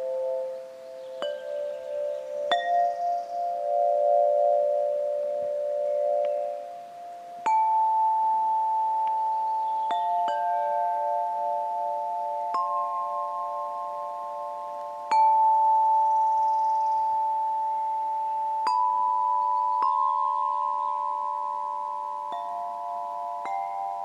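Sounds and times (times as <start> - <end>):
tubular chimes struck with mallet: 0.0 - 24.0.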